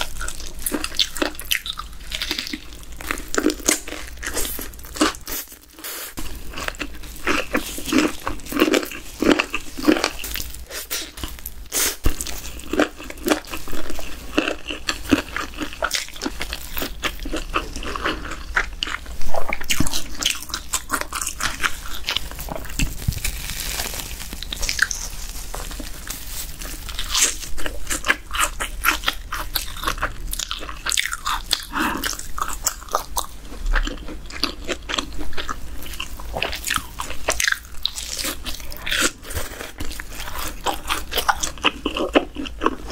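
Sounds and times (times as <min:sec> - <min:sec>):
chewing and crunching: 0:00.0 - 0:42.9.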